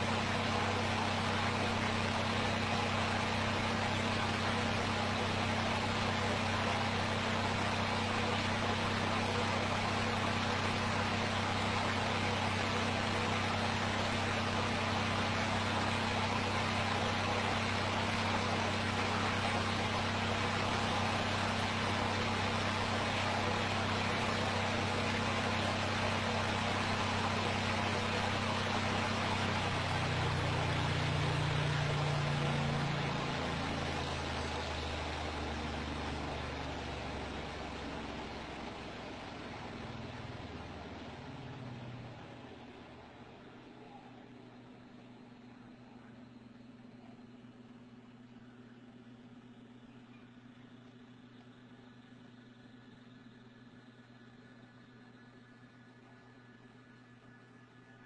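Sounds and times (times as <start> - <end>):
fan clock motor humming and whirring: 0.0 - 58.0.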